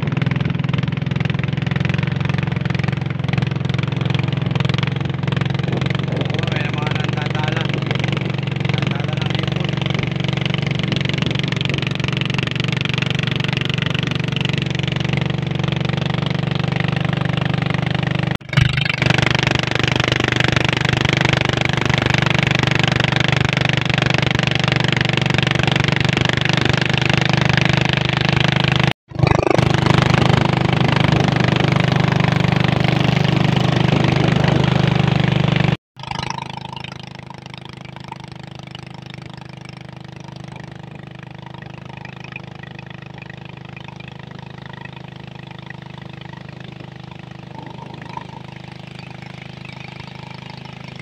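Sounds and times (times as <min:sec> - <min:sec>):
motorboat engine droning: 0:00.0 - 0:51.0.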